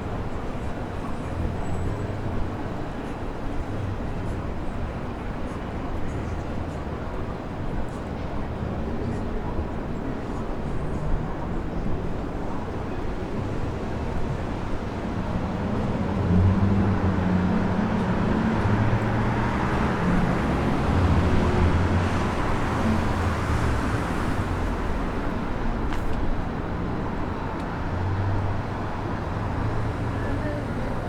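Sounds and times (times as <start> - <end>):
passing traffic: 0.0 - 31.0.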